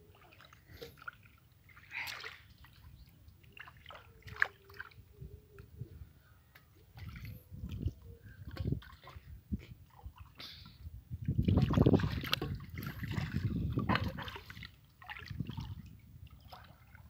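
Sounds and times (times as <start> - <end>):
water sloshing and dripping: 0.0 - 5.8, 6.5 - 17.0.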